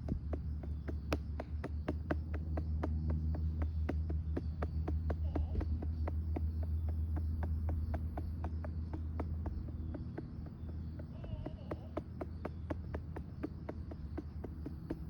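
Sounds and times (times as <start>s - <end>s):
light patting on a doll's back: 0.0s - 15.0s
steady low hum: 0.0s - 15.0s.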